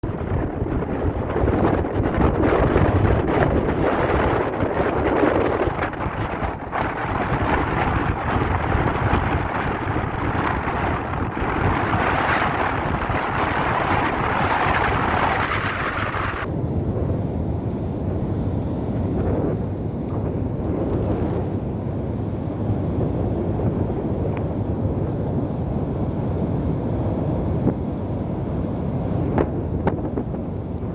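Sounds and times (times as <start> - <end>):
rough sea: 0.0 - 30.9
strong wind buffeting microphone: 0.0 - 30.9.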